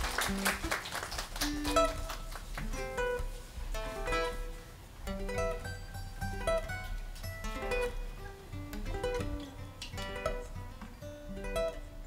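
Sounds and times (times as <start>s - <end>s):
acoustic guitar picking: 1.4s - 12.0s.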